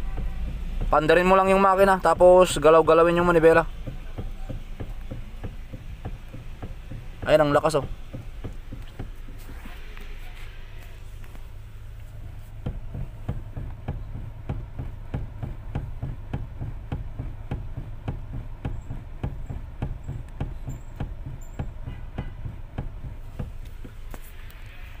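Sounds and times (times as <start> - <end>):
car engine idling: 0.0 - 25.0
steering rack clunking: 0.0 - 25.0.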